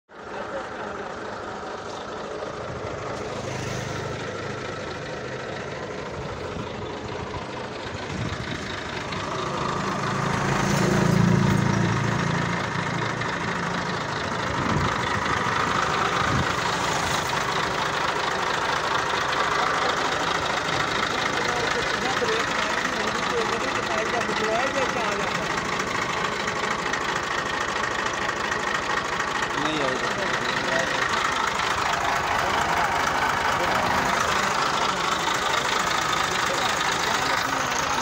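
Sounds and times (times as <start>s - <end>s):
tractor diesel engine idling: 0.1s - 38.0s.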